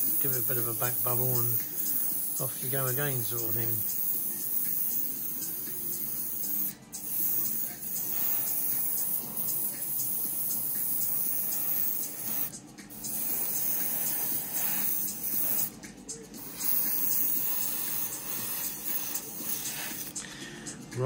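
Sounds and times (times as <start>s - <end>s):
airbrush hissing: 0.0s - 15.8s, 16.4s - 20.4s.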